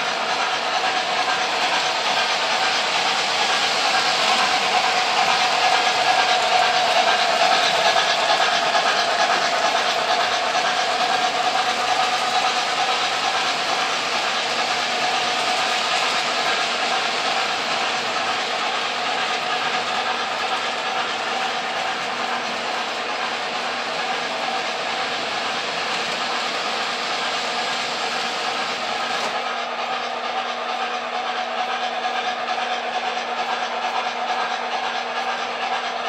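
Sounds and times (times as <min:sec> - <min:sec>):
model train rumbling on track: 0:00.0 - 0:36.0.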